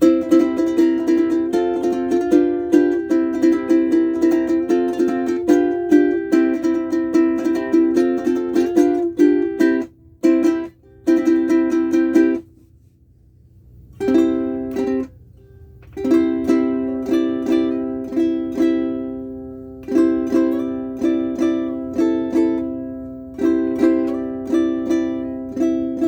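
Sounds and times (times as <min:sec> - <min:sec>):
ukulele strumming chords: 0:00.0 - 0:12.6, 0:14.0 - 0:26.0.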